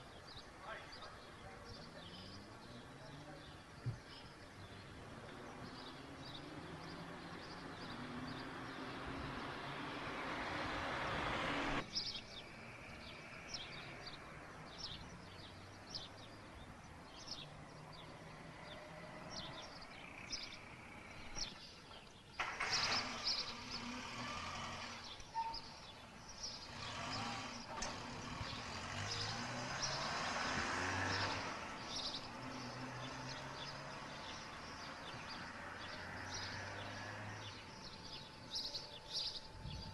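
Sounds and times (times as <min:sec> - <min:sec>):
birds chirping: 0:00.0 - 0:39.9
cars passing: 0:00.0 - 0:39.9.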